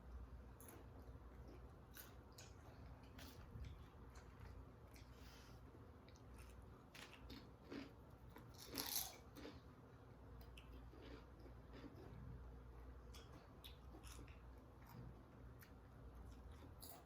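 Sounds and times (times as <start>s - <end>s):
crunchy food being chewed: 0.6s - 9.8s, 10.4s - 17.0s.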